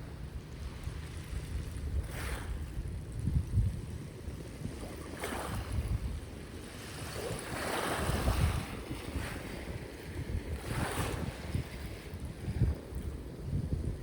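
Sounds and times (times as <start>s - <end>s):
sea waves washing on shore: 0.0s - 14.0s
wind rumbling on microphone: 0.0s - 14.0s.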